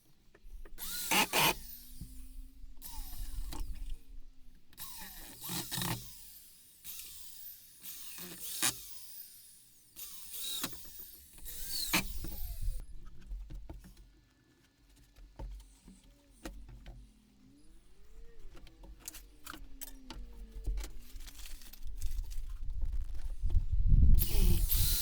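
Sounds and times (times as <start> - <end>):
small electric motor whirring: 0.4 - 13.3, 16.4 - 25.0.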